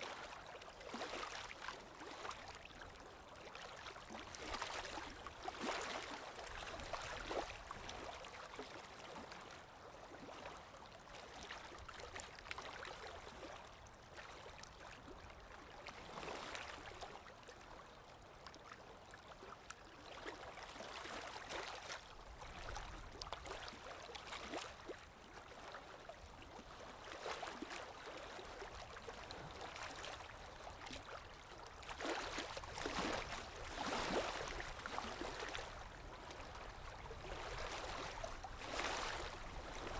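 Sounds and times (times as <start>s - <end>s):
stream trickling and gurgling: 0.0s - 39.9s.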